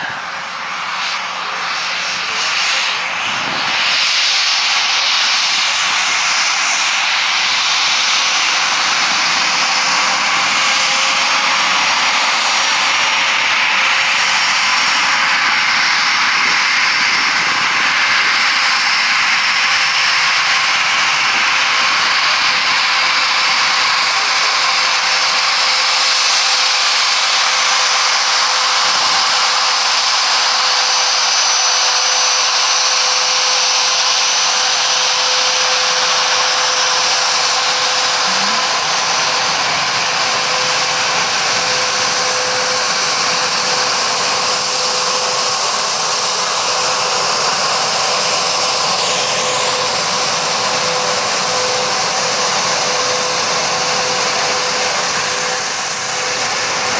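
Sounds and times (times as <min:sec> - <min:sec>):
jet engines whining: 0:00.0 - 0:56.9.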